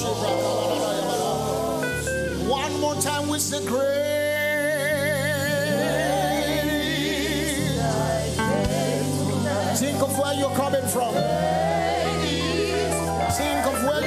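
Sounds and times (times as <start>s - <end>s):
bass: 0.0s - 14.0s
keyboard chords: 0.0s - 14.0s.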